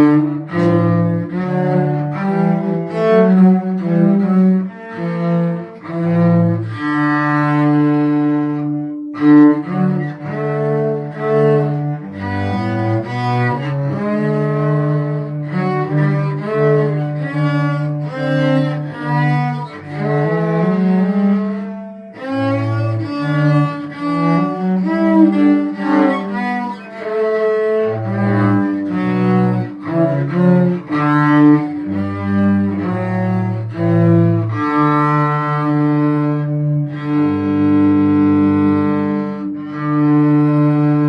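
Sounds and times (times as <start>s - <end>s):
cello playing hymn melody: 0.0s - 41.0s.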